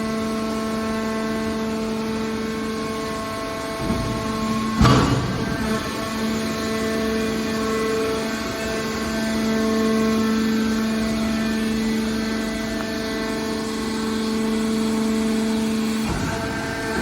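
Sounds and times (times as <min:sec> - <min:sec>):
hydraulic baler humming: 0:00.0 - 0:17.0.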